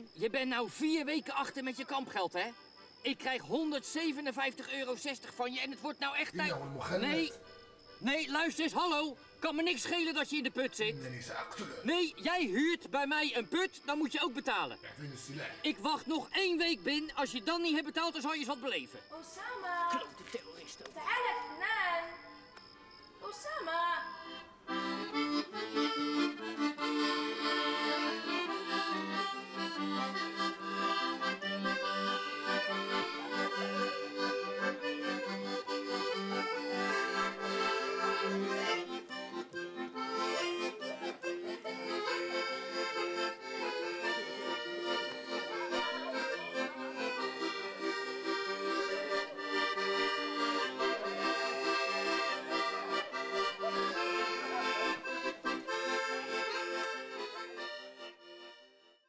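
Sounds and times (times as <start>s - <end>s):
music: 1.5s - 13.6s, 21.1s - 59.0s.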